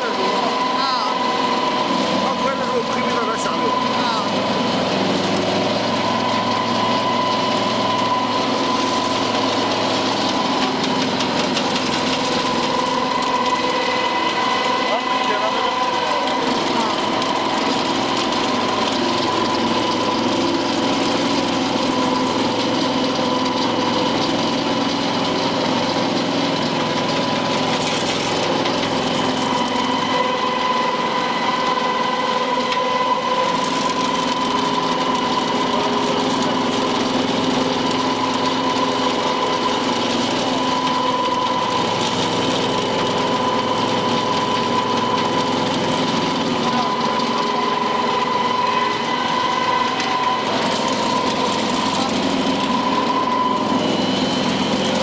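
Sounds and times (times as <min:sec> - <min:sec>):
pellet mill humming with whine: 0:00.0 - 0:55.0.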